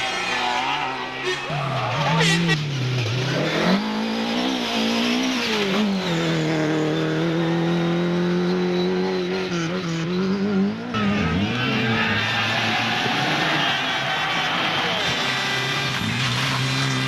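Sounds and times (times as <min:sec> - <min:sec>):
racing car engine under load: 0:00.0 - 0:17.0.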